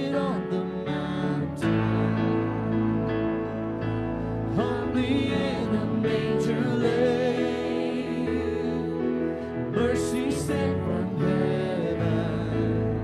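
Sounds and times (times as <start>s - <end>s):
worship band playing: 0.0s - 13.0s.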